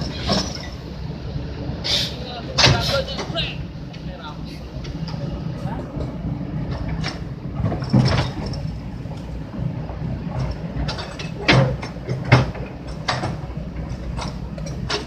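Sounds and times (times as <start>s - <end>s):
heavy vehicle engine humming: 0.0s - 15.0s.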